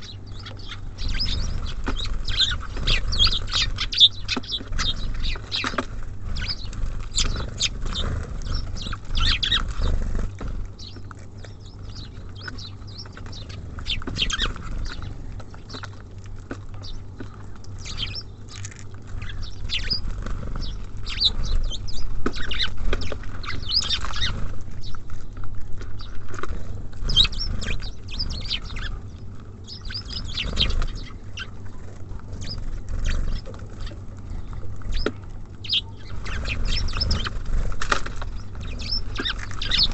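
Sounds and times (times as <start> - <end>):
low rumble: 0.0 - 39.9
small birds chirping: 0.0 - 39.9.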